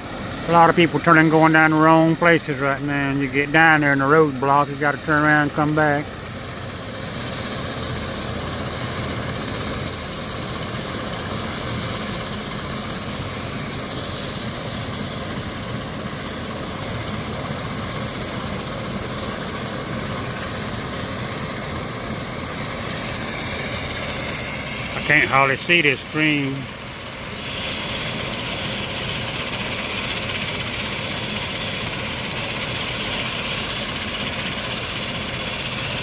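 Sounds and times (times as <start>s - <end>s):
helicopter engine and rotor noise: 0.0s - 36.0s.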